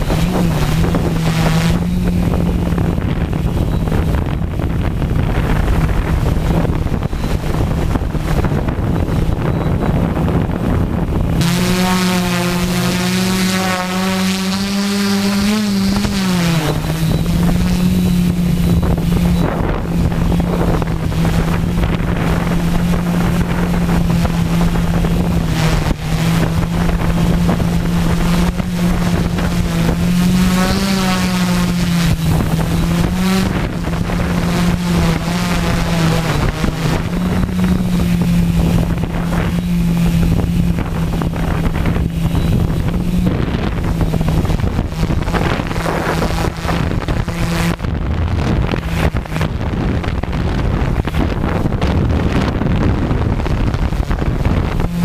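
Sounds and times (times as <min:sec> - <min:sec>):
drone motors humming: 0:00.0 - 0:55.0
wind noise on microphone: 0:00.0 - 0:55.0.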